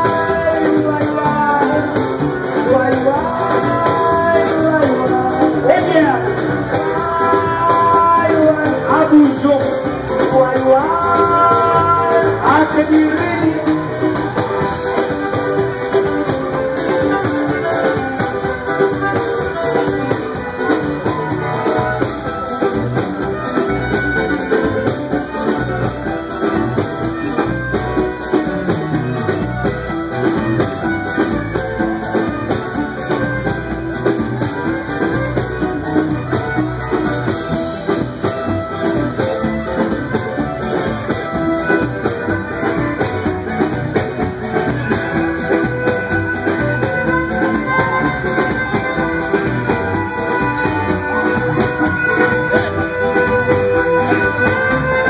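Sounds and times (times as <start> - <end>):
drum kit: 0.0 - 55.0
guitar: 0.0 - 55.0
violin: 0.0 - 55.0.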